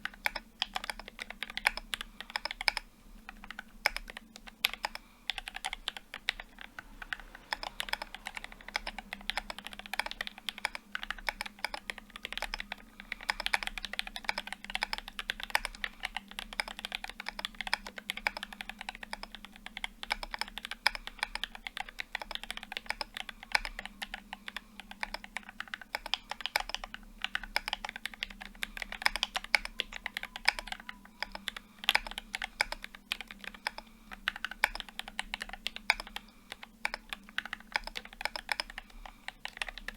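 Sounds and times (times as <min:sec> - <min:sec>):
faint steady hum: 0:00.0 - 0:39.9
mechanical keyboard typing: 0:00.0 - 0:39.9.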